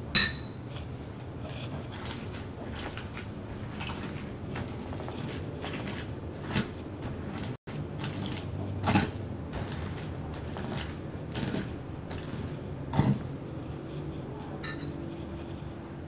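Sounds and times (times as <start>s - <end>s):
pestle grinding in mortar: 0.0s - 16.0s.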